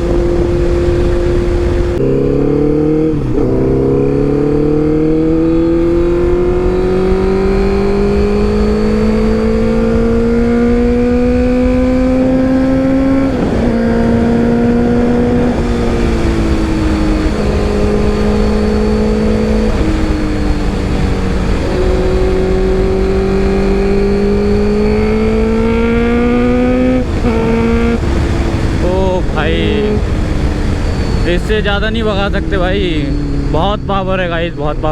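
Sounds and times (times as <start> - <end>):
motorcycle engine revving: 0.0 - 34.9
wind rushing: 0.0 - 34.9.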